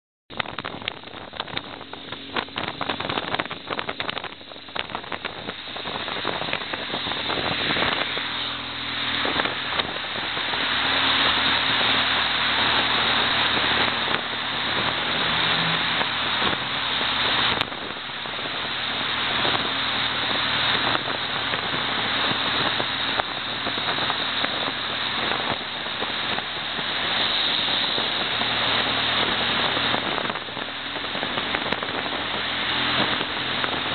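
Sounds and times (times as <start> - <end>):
engine crackles: 0.3 - 33.9
motorcycle engine hum: 0.3 - 33.9
wind and road noise: 0.3 - 33.9.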